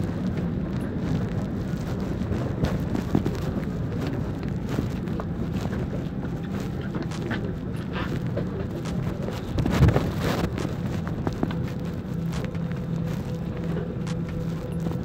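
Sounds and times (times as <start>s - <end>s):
cabin ventilation rushing hum: 0.0s - 15.0s.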